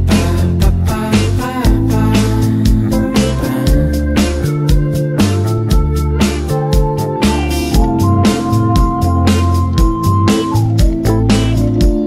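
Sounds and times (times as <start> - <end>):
instrumental pop music: 0.0 - 12.0.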